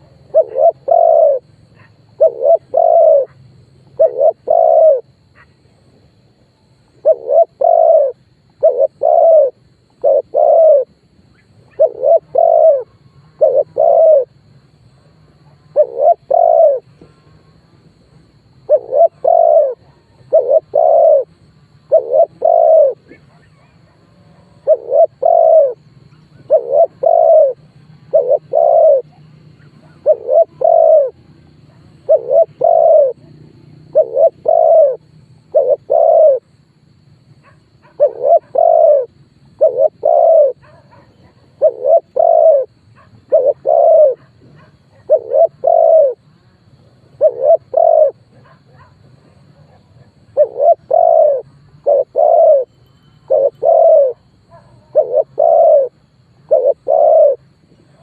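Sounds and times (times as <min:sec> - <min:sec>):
dove cooing: 0:00.0 - 0:05.5, 0:07.0 - 0:14.4, 0:15.4 - 0:17.4, 0:18.4 - 0:58.0.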